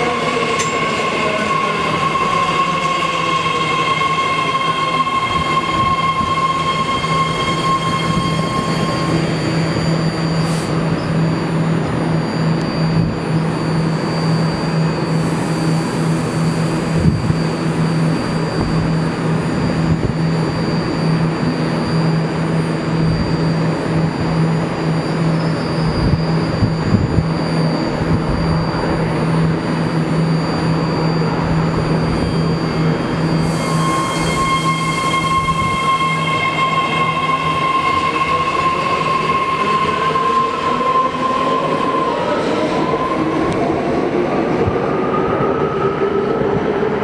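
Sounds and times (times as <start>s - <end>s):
train mechanical hum: 0.0s - 43.8s.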